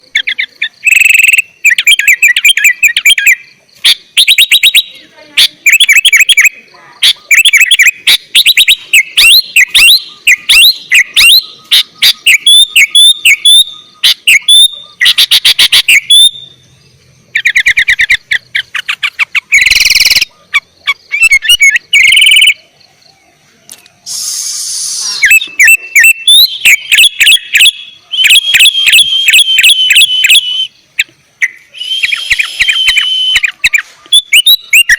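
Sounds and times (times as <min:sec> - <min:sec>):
bird singing whistled notes: 0:00.0 - 0:34.9
harsh bird calls: 0:00.0 - 0:34.9.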